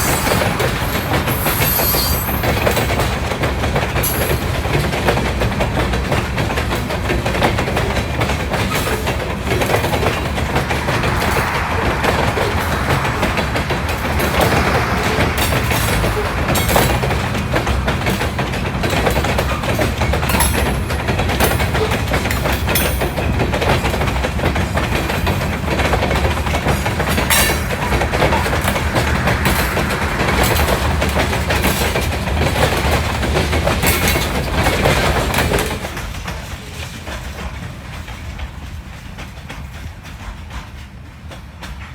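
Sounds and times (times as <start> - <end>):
freight train rumbling past: 0.0 - 41.9.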